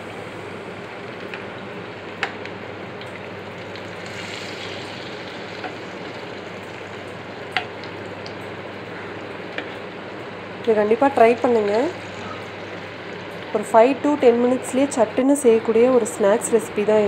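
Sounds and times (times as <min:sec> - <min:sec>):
hot oil sizzling: 0:00.0 - 0:14.6.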